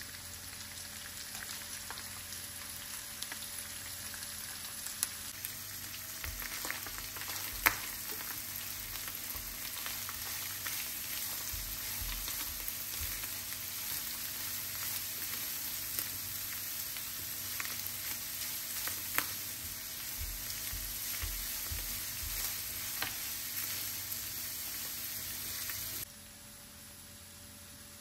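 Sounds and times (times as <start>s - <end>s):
meat sizzling in a pan: 0.0s - 26.1s.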